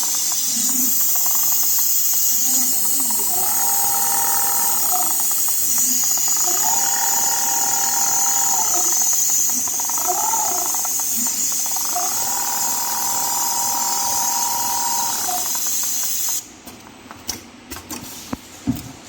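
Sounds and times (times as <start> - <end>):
sewing machine motor whining: 0.0 - 16.4.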